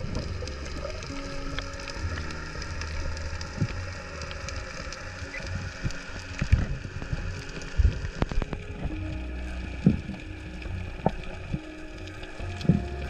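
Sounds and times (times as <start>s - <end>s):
crackle of faint underwater clicks: 0.0s - 13.0s
low underwater rumble: 0.0s - 13.0s.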